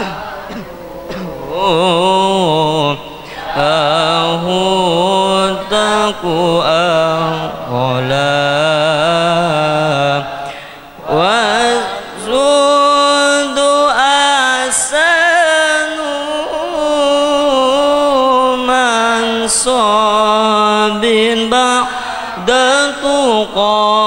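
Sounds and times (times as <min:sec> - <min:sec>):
person singing devotional song: 0:00.0 - 0:24.0.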